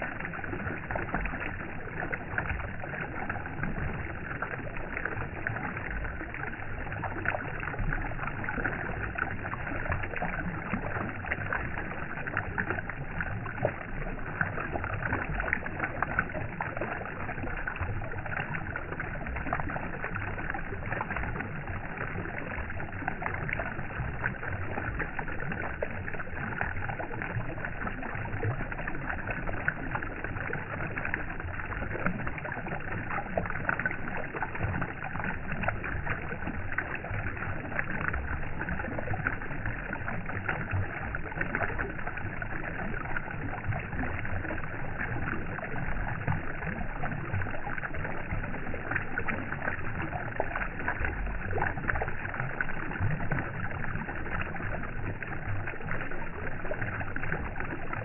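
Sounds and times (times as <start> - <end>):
water flowing with small splashes: 0.0 - 58.0.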